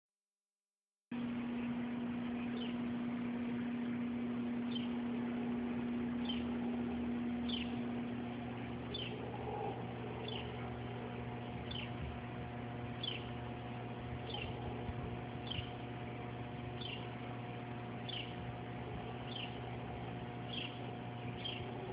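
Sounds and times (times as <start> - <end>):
low hum: 1.1 - 21.9.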